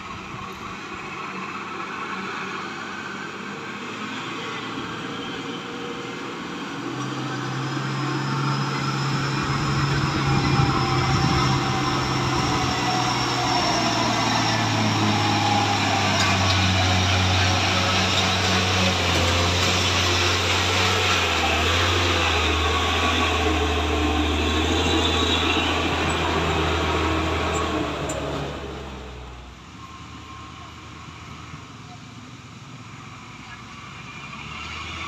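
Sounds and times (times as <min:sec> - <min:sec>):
diesel truck engine labouring: 0:00.0 - 0:35.0.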